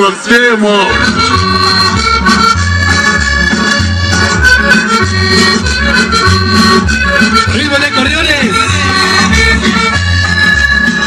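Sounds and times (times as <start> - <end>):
accordion melody: 0.0 - 11.0
repeating bass beat: 0.9 - 11.0.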